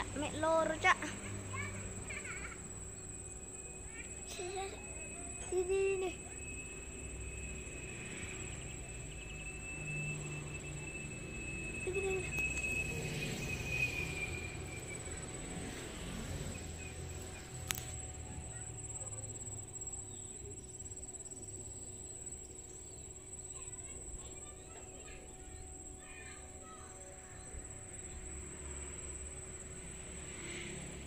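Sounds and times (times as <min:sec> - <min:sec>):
constant thin high tone: 0:00.0 - 0:31.0.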